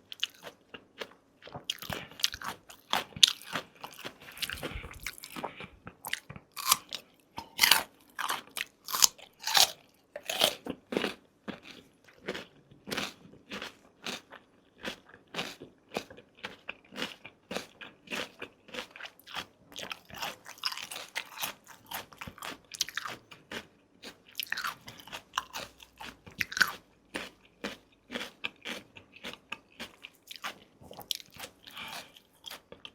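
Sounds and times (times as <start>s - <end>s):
person chewing with crunches: 0.0s - 32.9s.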